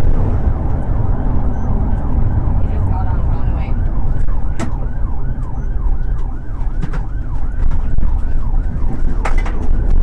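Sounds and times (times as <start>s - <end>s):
car engine and road rumble: 0.0s - 10.0s
police siren yelping: 0.0s - 10.0s.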